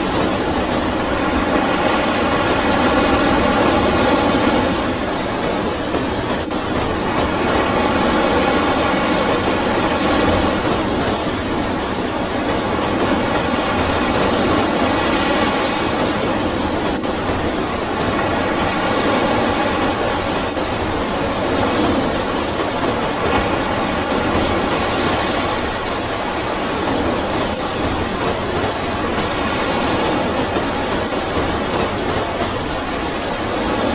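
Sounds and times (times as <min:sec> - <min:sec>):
floodwater rushing: 0:00.0 - 0:33.9.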